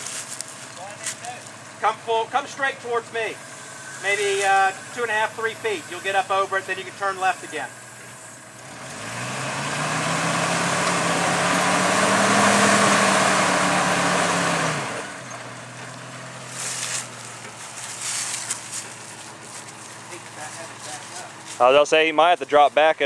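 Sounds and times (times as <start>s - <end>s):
engine revving under load: 0.8s - 22.0s.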